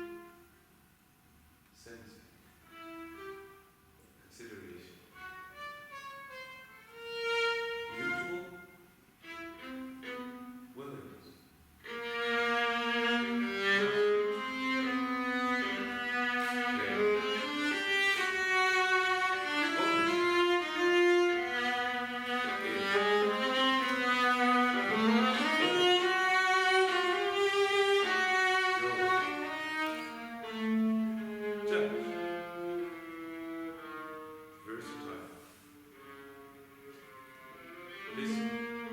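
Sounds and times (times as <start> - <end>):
bowed strings playing long notes: 5.1 - 10.8, 11.8 - 38.9.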